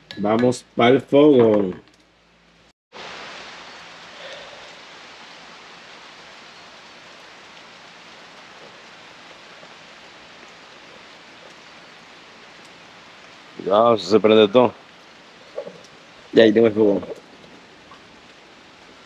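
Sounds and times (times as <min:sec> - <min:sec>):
light rain hissing: 0:00.2 - 0:19.0.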